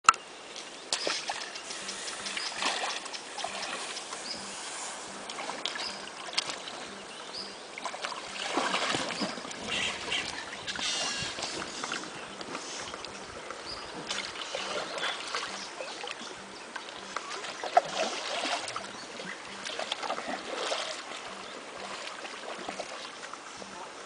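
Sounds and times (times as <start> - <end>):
paddle strokes splashing water: 0.5 - 24.0.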